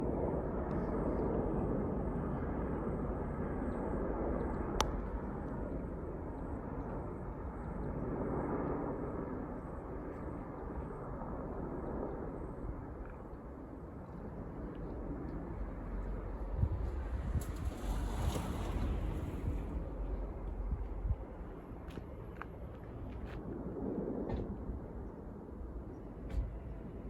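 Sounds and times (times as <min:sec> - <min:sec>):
helicopters flying past: 0:00.0 - 0:27.0.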